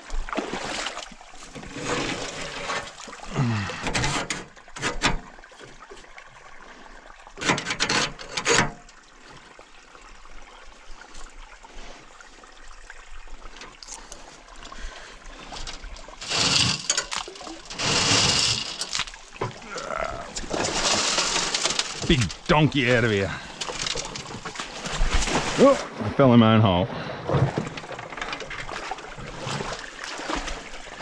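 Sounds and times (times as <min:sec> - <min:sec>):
water sloshing: 0:00.0 - 0:31.0
water splashing and trickling: 0:00.0 - 0:31.0.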